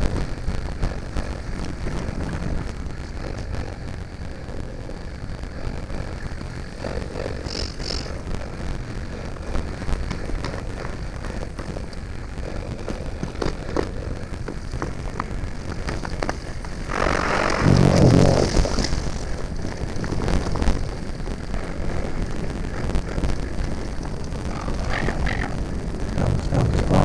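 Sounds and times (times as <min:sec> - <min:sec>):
bike tyres rumbling on trail: 0:00.0 - 0:27.0
rush of noise: 0:00.0 - 0:27.0
bike clicks and rattles: 0:00.8 - 0:27.0.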